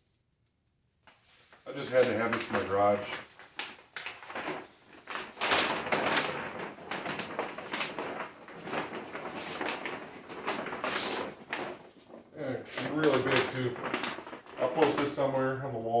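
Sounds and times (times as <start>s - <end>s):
sign and packaging rustling: 1.1s - 15.6s.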